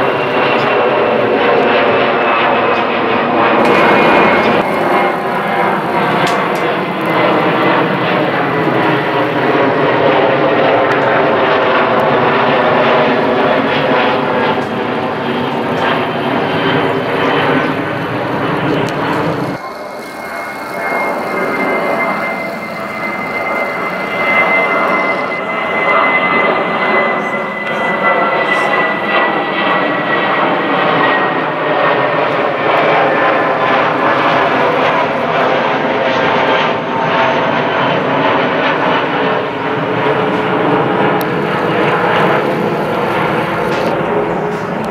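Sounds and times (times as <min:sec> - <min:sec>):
high jet engine whine: 0:00.0 - 0:44.9
jet airliner rumble: 0:00.0 - 0:44.9.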